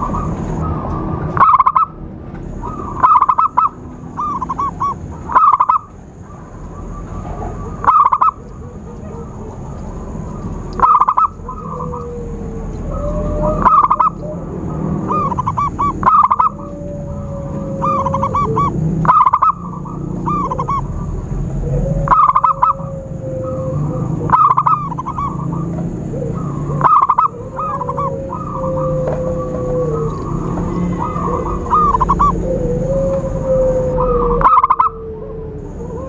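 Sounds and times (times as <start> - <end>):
dove cooing: 0.0 - 36.0
steady low rumble: 0.0 - 36.0.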